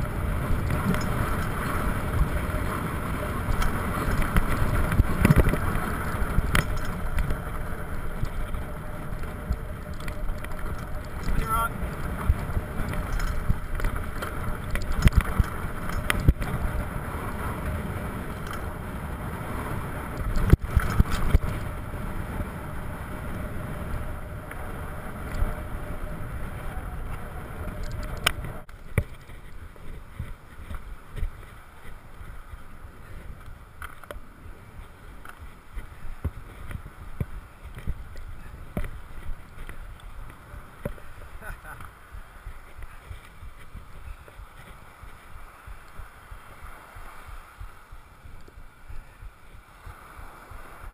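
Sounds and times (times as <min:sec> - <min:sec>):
mountain bike rattling on dirt: 0:00.0 - 0:50.5
wind rushing over microphone: 0:00.0 - 0:50.9.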